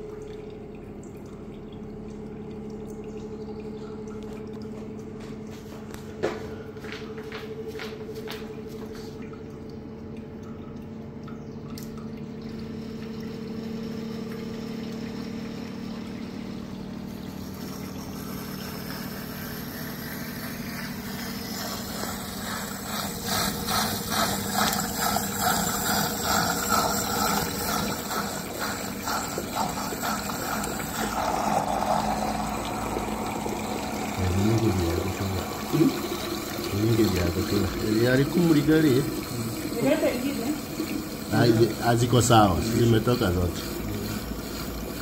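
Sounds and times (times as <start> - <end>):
drain pump humming: 0.0 - 45.0.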